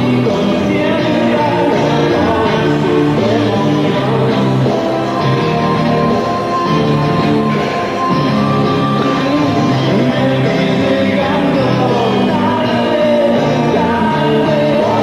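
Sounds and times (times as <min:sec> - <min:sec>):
rock music with singing and guitar: 0:00.0 - 0:15.0.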